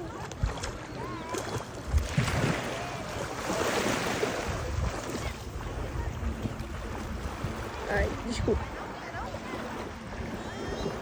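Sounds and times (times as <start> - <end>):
sea water rushing and splashing: 0.0 - 11.0
wind buffeting microphone: 0.0 - 11.0.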